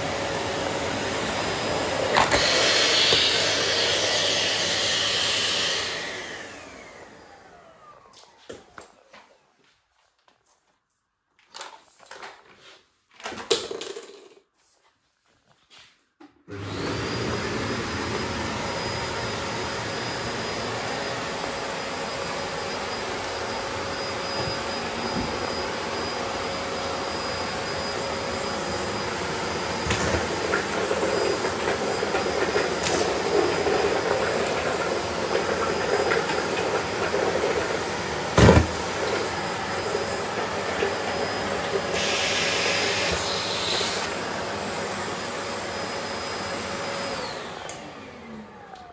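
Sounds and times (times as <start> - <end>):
vacuum cleaner running: 0.0 - 9.4, 16.5 - 48.9.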